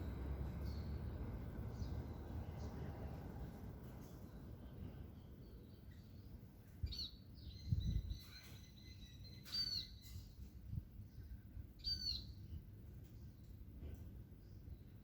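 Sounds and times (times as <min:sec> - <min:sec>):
bird chirping: 0:00.0 - 0:03.3, 0:04.0 - 0:10.5, 0:11.1 - 0:13.6.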